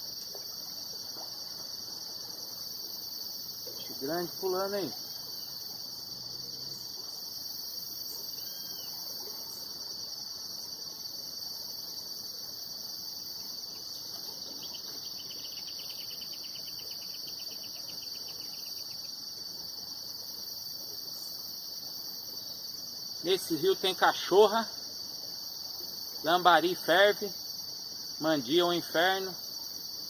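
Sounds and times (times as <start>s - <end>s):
insects chirring: 0.0s - 30.0s
rapid insect trill: 0.0s - 30.0s.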